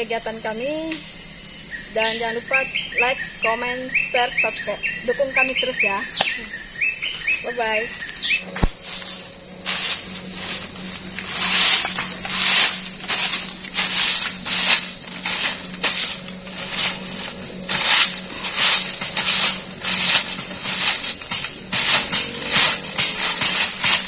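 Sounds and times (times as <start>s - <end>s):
insect pulsing rasp: 0.0s - 24.0s
insects high-pitched drone: 0.0s - 24.0s.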